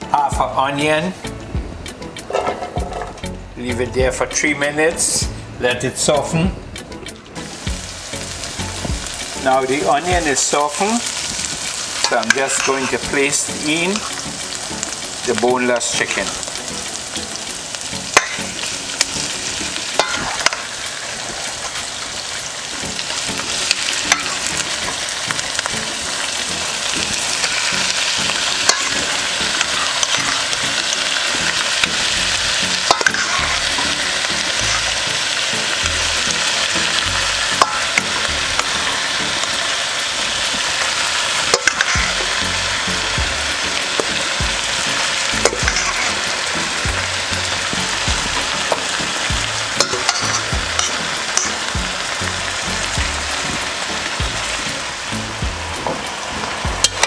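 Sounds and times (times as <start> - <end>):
chicken sizzling in oil: 7.4 - 57.0.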